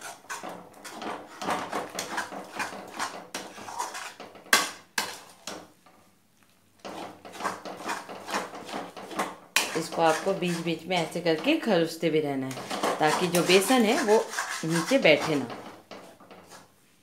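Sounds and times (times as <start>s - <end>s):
metal spatula scraping metal pan: 0.0s - 5.6s, 6.8s - 16.8s.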